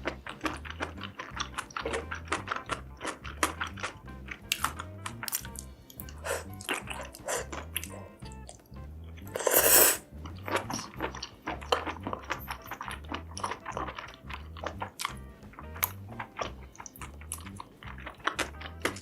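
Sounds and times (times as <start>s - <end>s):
background music with low beat: 0.0s - 19.0s
crunchy chewing: 0.0s - 19.0s.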